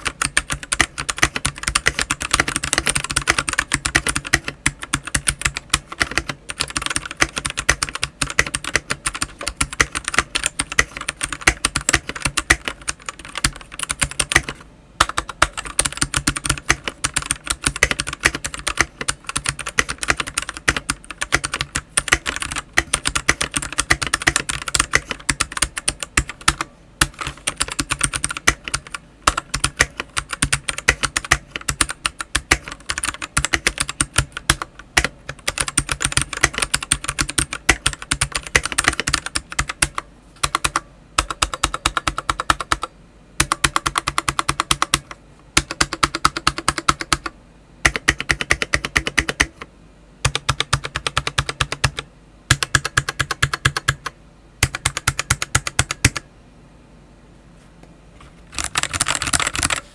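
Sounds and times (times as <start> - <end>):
mechanical keyboard typing: 0.0 - 56.3, 58.5 - 59.9.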